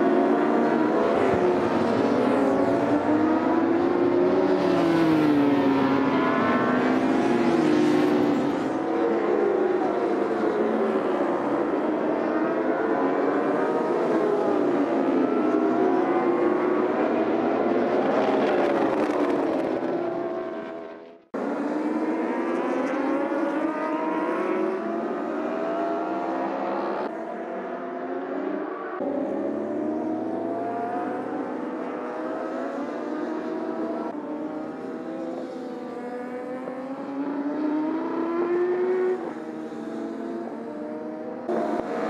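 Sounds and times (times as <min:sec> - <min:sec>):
racing motorcycle engines: 0:00.0 - 0:42.0.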